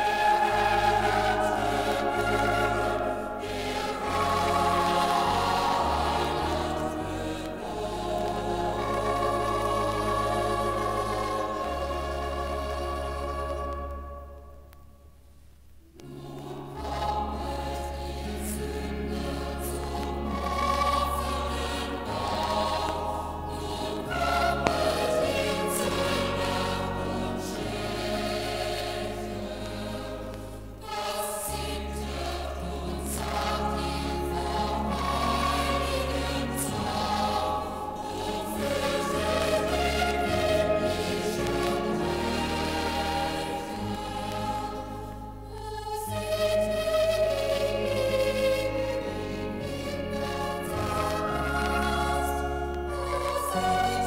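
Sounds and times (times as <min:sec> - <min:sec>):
choir singing christmas music: 0:00.0 - 0:54.0.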